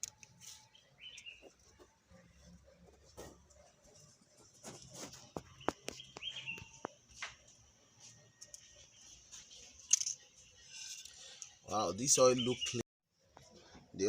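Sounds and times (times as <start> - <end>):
faint bird chirp: 0.0 - 12.8.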